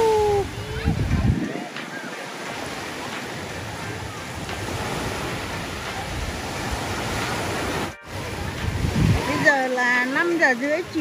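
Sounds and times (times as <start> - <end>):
waves washing onto beach: 0.0 - 11.0
wind rumbling on microphone: 0.0 - 11.0.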